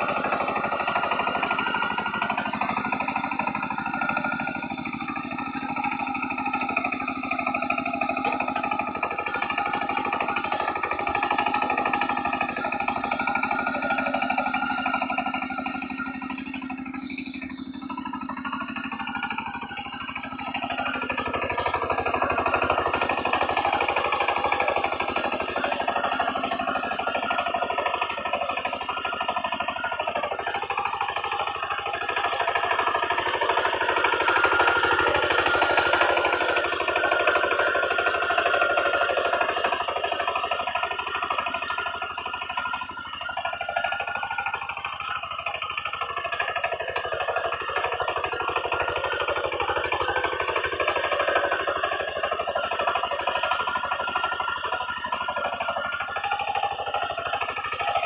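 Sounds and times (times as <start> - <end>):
diesel engine running under load: 0.0 - 58.0
rotary tiller churning mud: 0.0 - 58.0.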